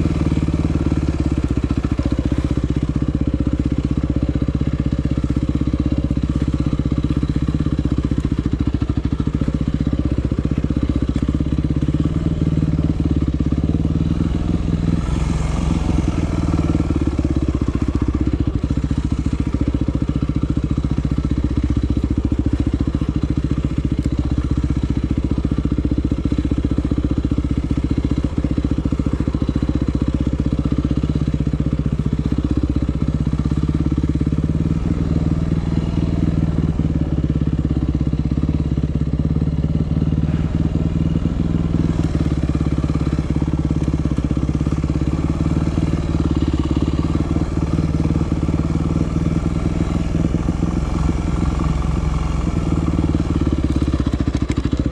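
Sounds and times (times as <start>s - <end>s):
motorcycle engine running under load: 0.0s - 54.9s.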